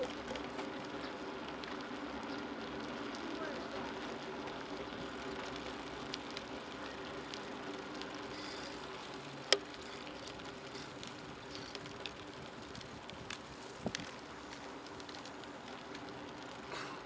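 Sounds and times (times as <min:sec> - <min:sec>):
bicycle rolling on asphalt: 0:00.0 - 0:17.0
faint ticks: 0:00.0 - 0:17.0.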